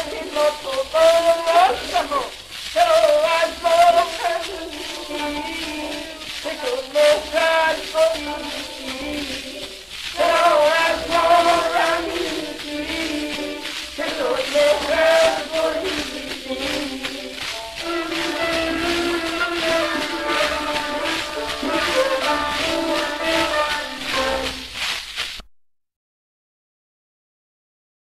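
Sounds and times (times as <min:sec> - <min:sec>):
old gramophone song with male vocal: 0:00.0 - 0:24.8.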